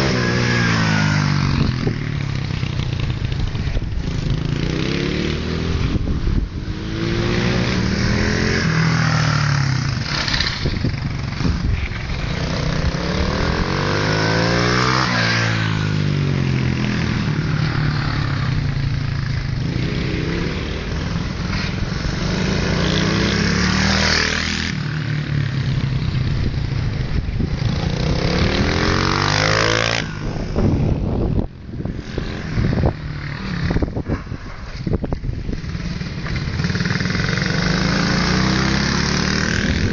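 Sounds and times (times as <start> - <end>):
motorcycles revving past: 0.0 - 39.9.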